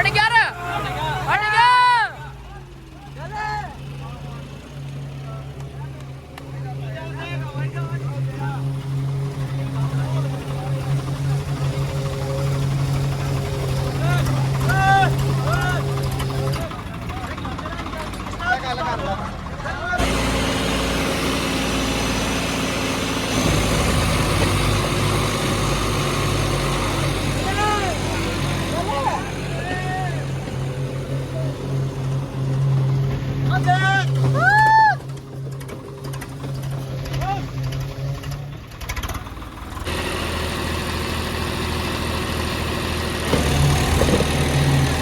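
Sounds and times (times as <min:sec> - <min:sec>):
tractor engines running under load: 0:00.0 - 0:45.0.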